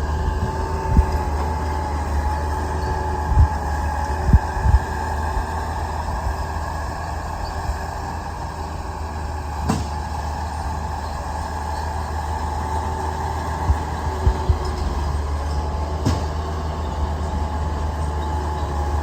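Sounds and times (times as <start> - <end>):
diesel engine running: 0.0 - 19.0
steady whine: 0.0 - 19.0.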